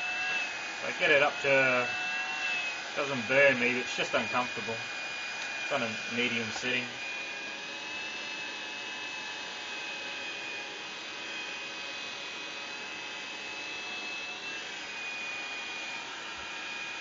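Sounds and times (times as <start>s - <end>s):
hairdryer blowing air: 0.0s - 17.0s.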